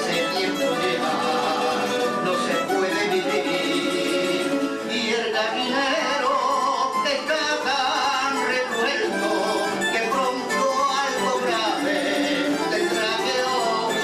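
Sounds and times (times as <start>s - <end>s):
person singing: 0.0s - 14.0s
plucked string trio playing: 0.0s - 14.0s.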